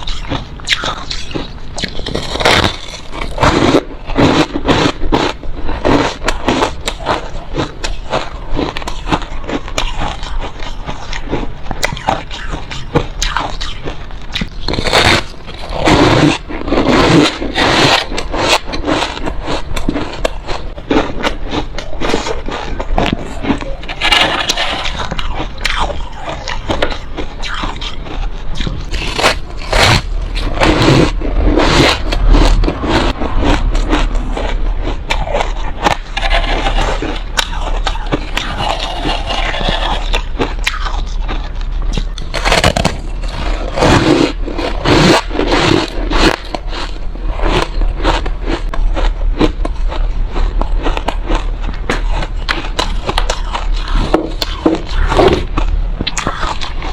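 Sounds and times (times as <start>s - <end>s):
chewing gritty ice crunches: 0.0s - 56.9s.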